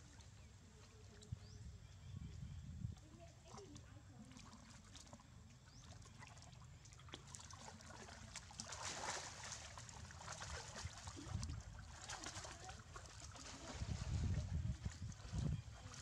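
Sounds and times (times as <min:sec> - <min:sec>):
water splashing and sloshing: 0:02.8 - 0:16.0.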